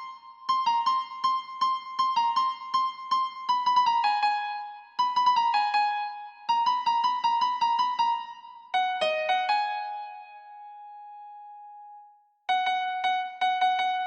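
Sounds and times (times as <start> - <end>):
electric piano melody: 0.0 - 14.0.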